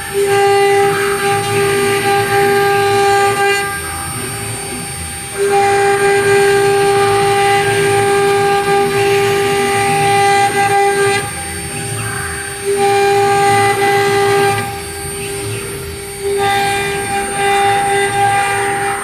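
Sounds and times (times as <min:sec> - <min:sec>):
spindle motor whining: 0:00.0 - 0:19.0.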